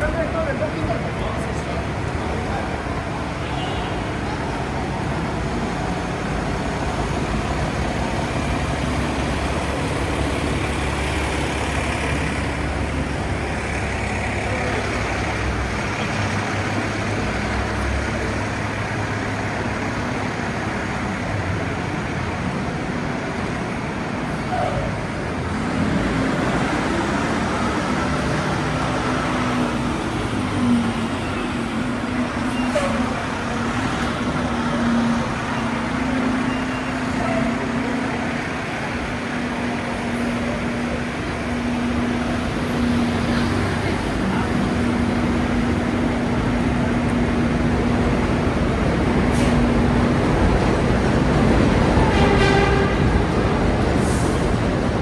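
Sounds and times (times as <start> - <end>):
city street traffic: 0.0 - 55.0
subway train rumbling: 0.0 - 55.0.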